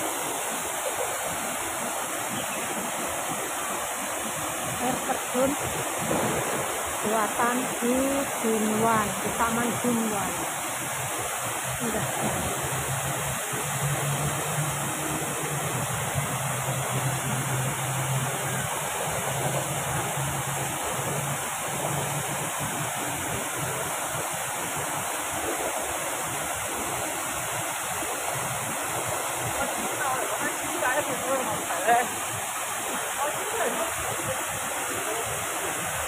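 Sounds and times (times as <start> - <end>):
waterfall rushing into pond: 0.0 - 36.0.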